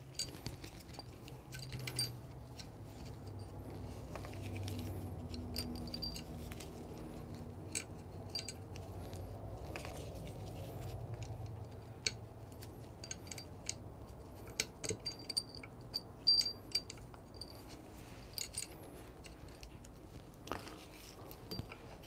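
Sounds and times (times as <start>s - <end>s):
light clicks and metallic rattles: 0.0s - 22.0s.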